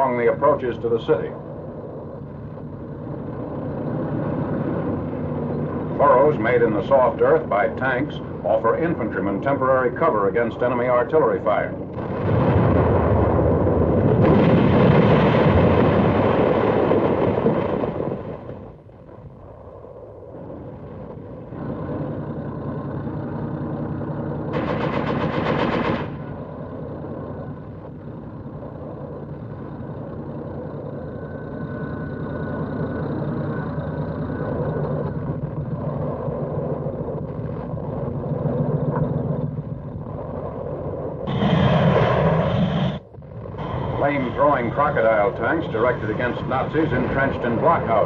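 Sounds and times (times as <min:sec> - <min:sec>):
tank engines humming: 0:00.0 - 0:48.0.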